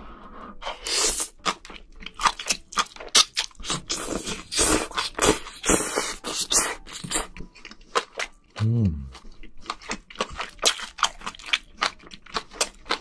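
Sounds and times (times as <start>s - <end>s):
wet chewing: 0.8s - 13.0s.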